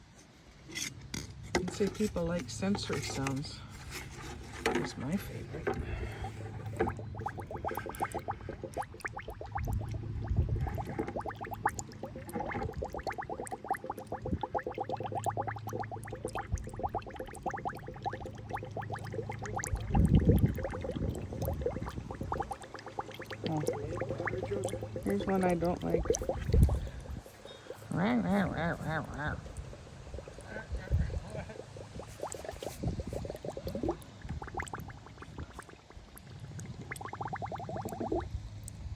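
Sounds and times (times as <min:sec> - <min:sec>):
low steady hum: 0:00.0 - 0:38.9
deep water gurgle: 0:01.8 - 0:38.9
water bubbling: 0:04.8 - 0:38.9.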